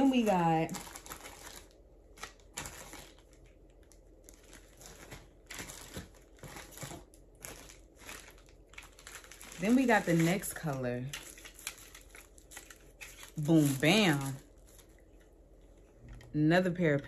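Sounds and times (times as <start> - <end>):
packaging rustling and crinkling: 0.0 - 16.3.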